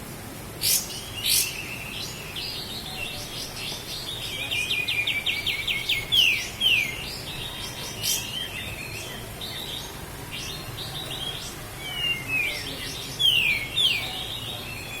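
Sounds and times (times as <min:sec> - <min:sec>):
songbird singing: 0:00.6 - 0:15.0.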